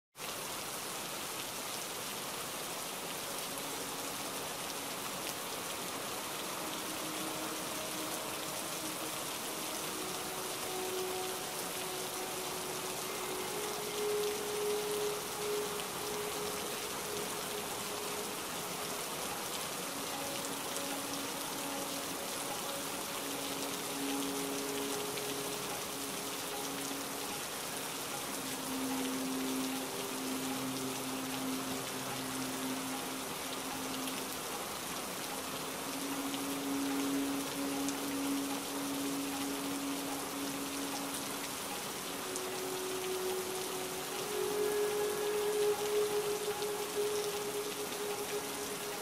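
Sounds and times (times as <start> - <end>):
heavy rain falling: 0.2 - 49.0.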